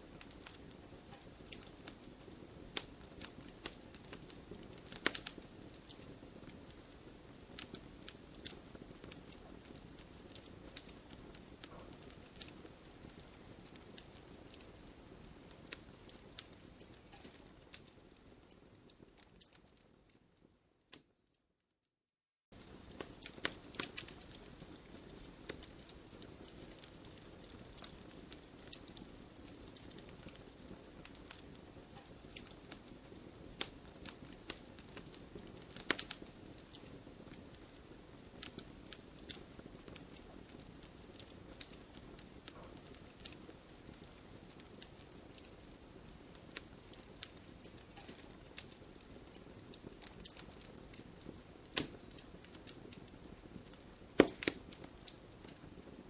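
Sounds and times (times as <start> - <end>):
campfire crackling and popping: 0.0 - 21.2, 22.5 - 56.0
soft fire hiss: 0.0 - 21.2, 22.5 - 56.0.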